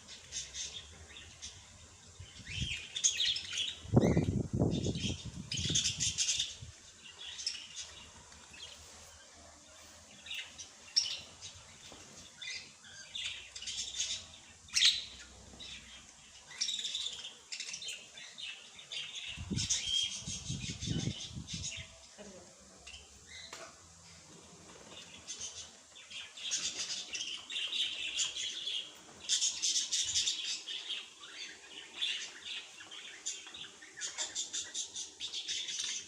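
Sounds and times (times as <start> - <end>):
songbirds chirping and twittering: 0.0 - 36.0.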